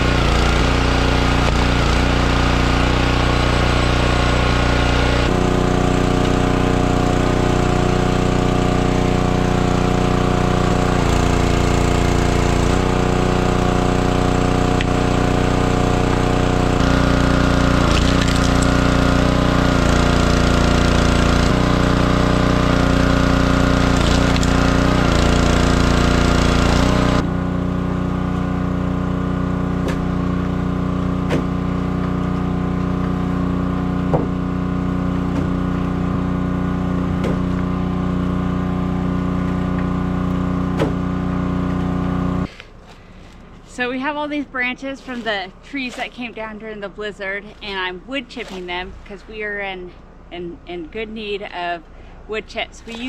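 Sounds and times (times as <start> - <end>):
wood knocking in chipper: 0.0 - 43.4
wood chipper engine running: 0.0 - 49.1.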